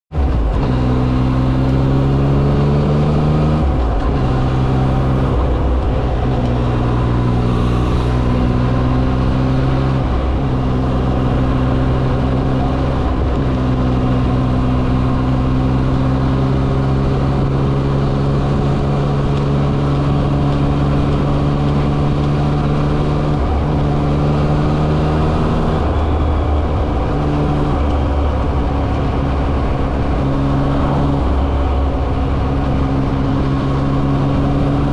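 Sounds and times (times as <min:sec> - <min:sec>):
motorcycle engine revving: 0:00.1 - 0:34.9
road and wind noise: 0:00.1 - 0:34.9.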